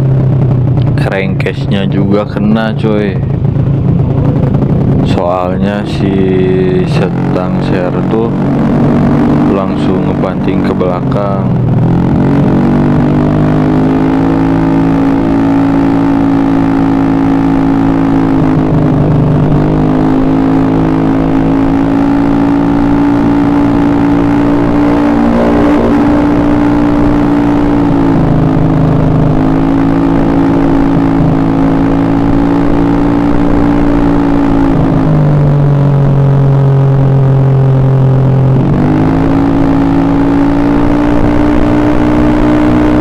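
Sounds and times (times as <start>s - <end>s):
small motorcycle engine revving high: 5.6s - 43.0s.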